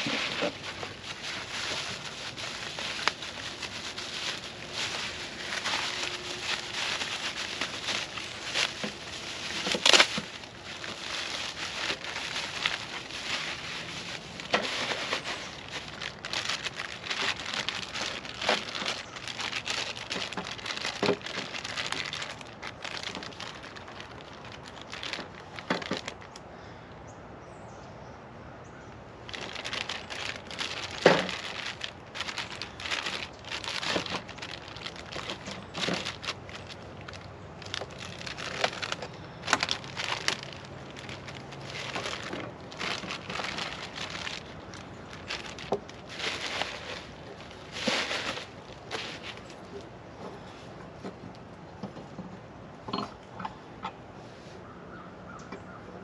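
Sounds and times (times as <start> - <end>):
packaging crinkling and rustling: 0.0 - 26.4, 29.3 - 53.2.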